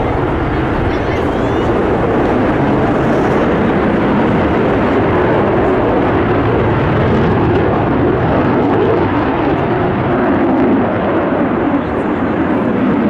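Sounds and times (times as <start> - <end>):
fighter jet flying overhead: 0.0 - 13.0.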